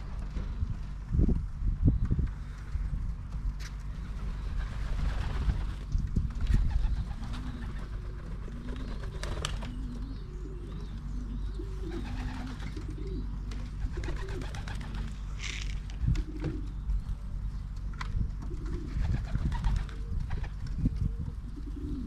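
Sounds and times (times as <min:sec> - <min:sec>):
pigeons cooing: 0:03.8 - 0:22.0.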